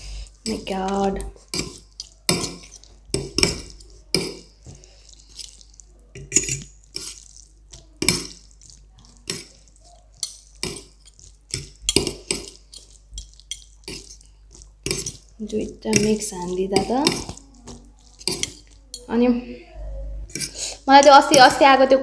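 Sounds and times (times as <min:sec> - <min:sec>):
forks clinking and scraping a plate: 0:00.4 - 0:19.1, 0:20.3 - 0:21.5.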